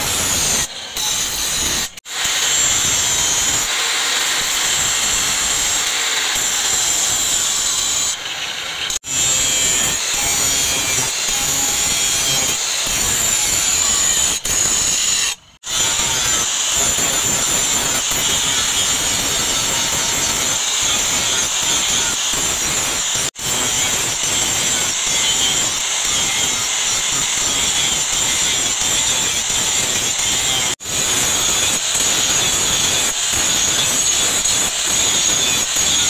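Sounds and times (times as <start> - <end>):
power tool grinding hiss: 0.0 - 36.0.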